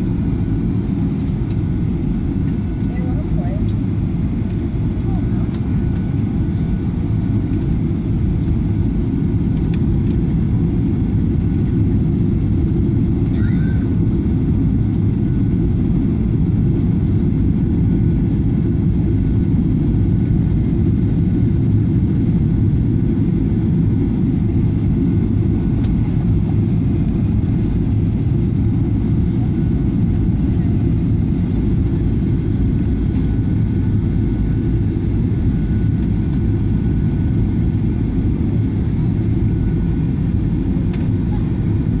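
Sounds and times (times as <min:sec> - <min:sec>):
airliner landing rumble: 0:00.0 - 0:42.0.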